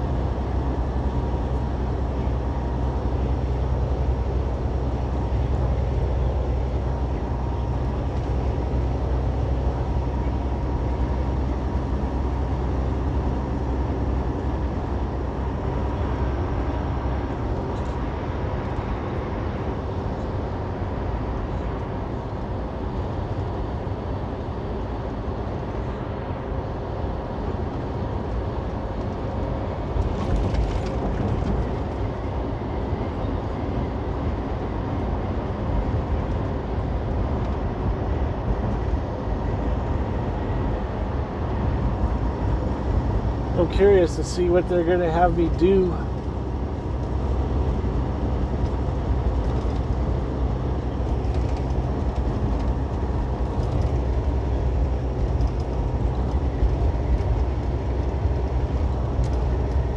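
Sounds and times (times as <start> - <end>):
diesel engine drone: 0.0 - 59.9
road and tyre noise: 0.0 - 59.9.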